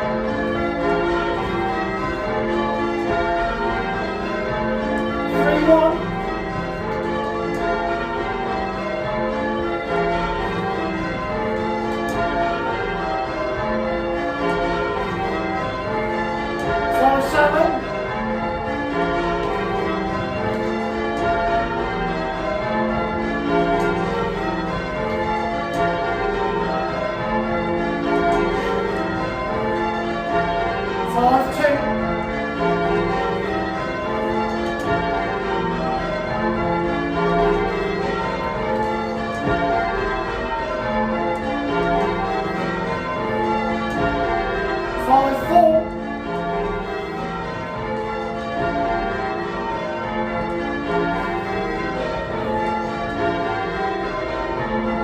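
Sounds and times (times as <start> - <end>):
church bells change ringing: 0.0 - 55.0.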